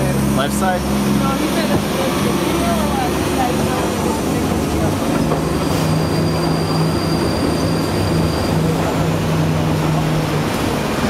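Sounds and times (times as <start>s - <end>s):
tram mechanical hum and rumble: 0.0s - 11.0s.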